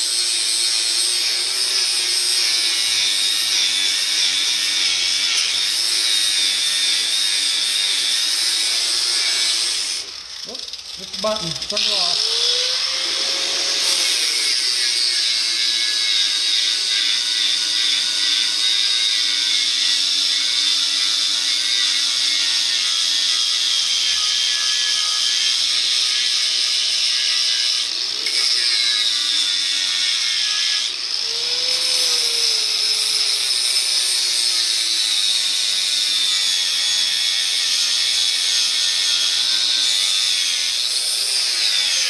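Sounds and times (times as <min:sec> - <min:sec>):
angle grinder grinding metal: 0:00.0 - 0:42.0.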